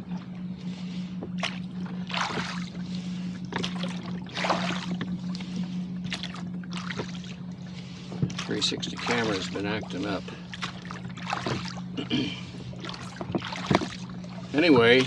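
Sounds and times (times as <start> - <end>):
steady low hum: 0.0 - 15.0
water splashing around a rowboat: 0.0 - 15.0.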